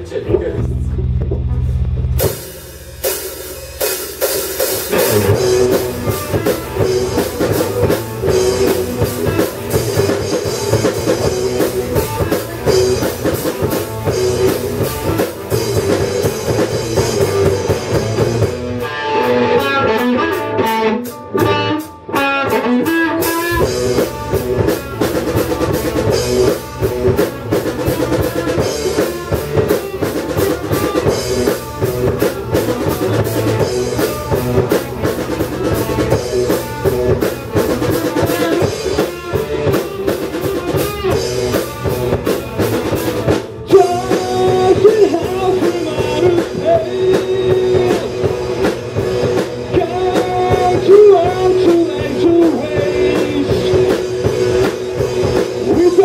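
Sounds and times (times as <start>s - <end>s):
electric guitars: 0.0s - 56.0s
rock band playing: 0.0s - 56.0s.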